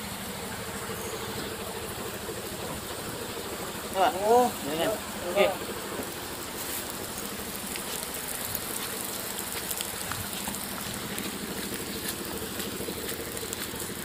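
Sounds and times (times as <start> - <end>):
motorbike engine idling: 0.0 - 14.0
rain falling: 0.0 - 14.0.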